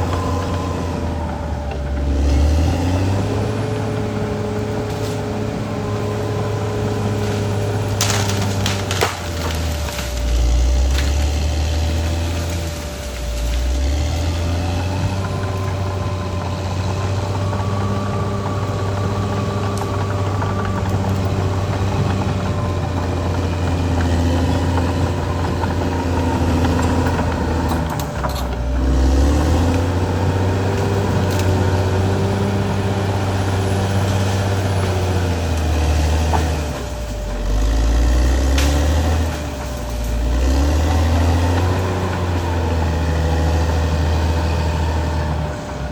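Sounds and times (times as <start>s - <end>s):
bulldozer diesel engine working: 0.0s - 45.9s.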